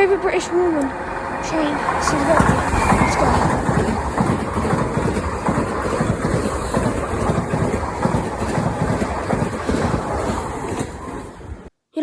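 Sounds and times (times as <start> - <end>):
train rumbling on track: 0.0 - 11.7.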